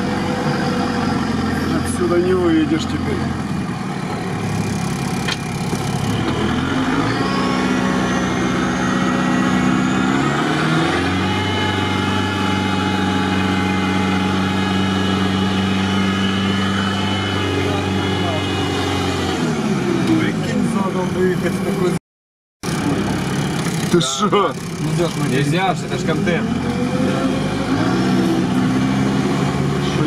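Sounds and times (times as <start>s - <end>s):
vehicle engine running at low speed: 0.0s - 22.0s, 22.6s - 30.0s.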